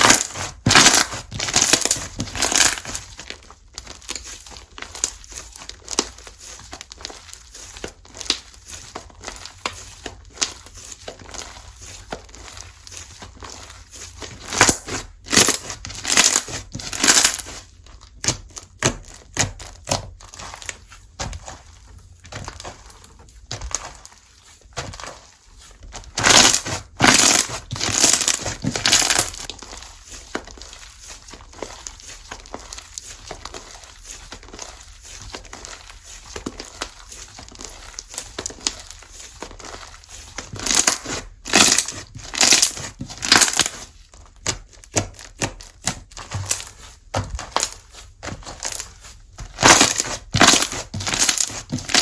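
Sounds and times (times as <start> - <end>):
hands squishing slime: 0.0 - 52.0.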